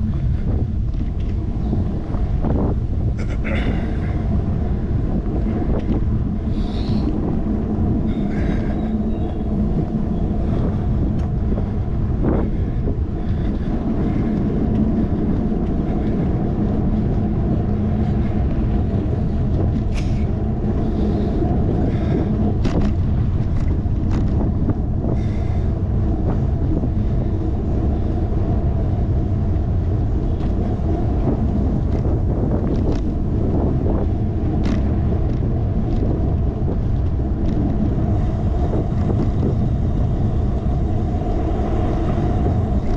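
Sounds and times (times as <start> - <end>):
bicycle clicks and rattles: 0.0 - 42.9
tyre and road rumble: 0.0 - 42.9
wind buffeting: 0.0 - 42.9.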